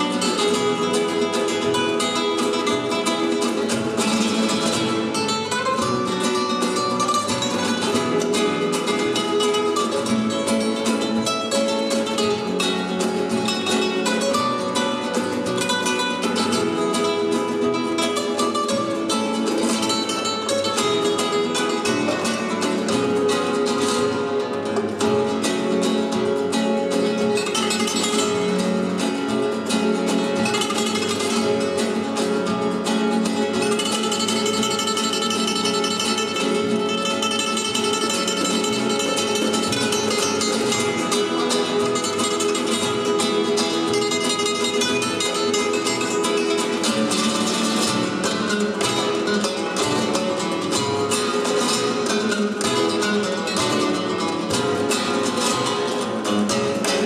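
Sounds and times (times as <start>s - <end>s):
cajon drumming: 0.0s - 57.0s
flamenco guitars playing: 0.0s - 57.0s.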